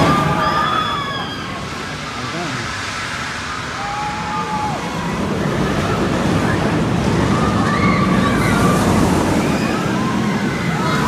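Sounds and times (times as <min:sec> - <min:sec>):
roller coaster train rushing: 0:00.0 - 0:11.0.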